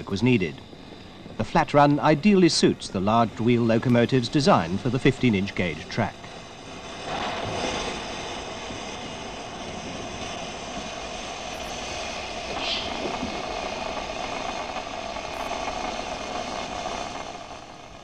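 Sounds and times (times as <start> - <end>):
steam hiss: 0.0 - 18.0
steam train rumbling: 0.0 - 18.0.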